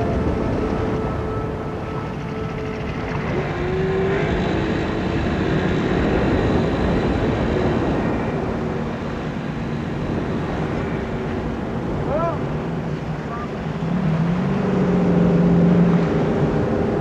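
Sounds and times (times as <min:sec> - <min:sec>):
outboard motor running: 0:00.0 - 0:17.0
water noise: 0:00.0 - 0:17.0
wind: 0:00.0 - 0:17.0.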